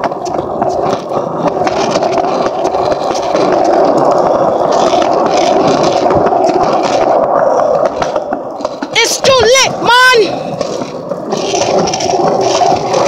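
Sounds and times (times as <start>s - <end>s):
skateboard wheels rolling on pavement: 0.0s - 13.0s.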